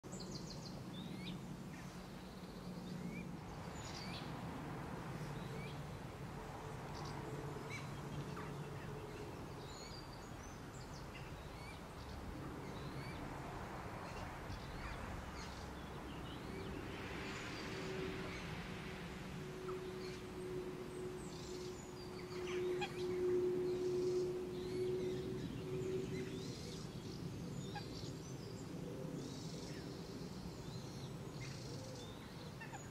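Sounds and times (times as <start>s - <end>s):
songbirds chirping: 0.0s - 32.9s
steady low hum: 0.7s - 31.6s.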